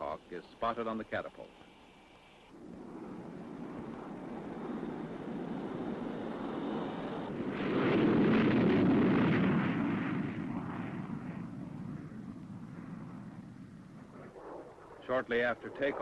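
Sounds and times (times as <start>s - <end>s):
jet engine at full power: 0.0s - 16.0s.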